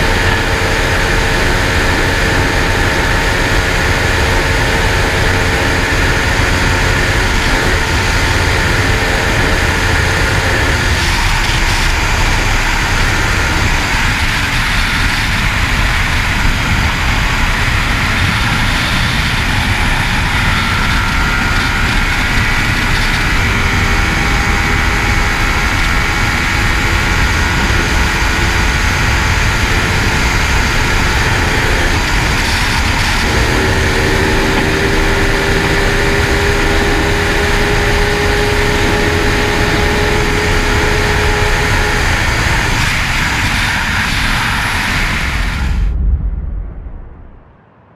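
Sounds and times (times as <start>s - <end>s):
motorbike engine at high speed: 0.0s - 46.0s
wind rushing over microphone: 0.0s - 47.9s.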